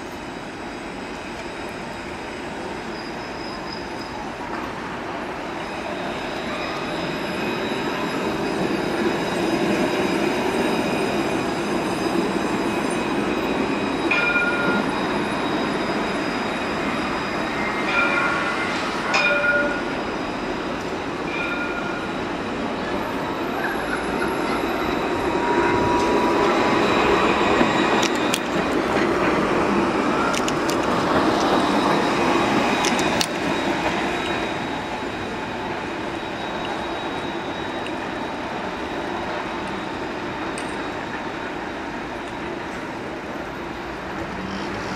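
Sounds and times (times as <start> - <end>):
tram rolling past: 0.0 - 44.9.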